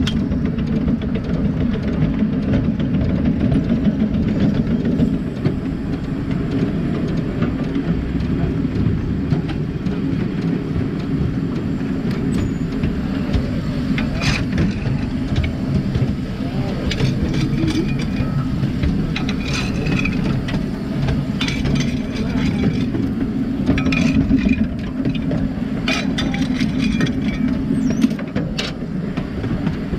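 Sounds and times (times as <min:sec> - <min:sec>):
wheels rumbling on rails: 0:00.0 - 0:29.9.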